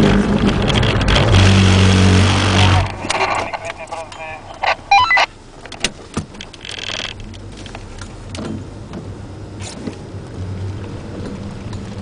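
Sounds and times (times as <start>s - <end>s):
car engine humming: 0.0s - 12.0s
tyre and rain noise: 0.0s - 12.0s.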